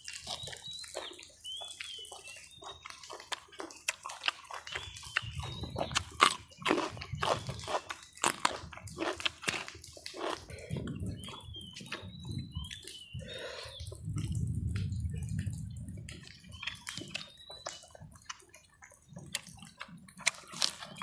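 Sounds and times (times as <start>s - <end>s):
wet chewing and lip-smacking: 0.0s - 21.0s.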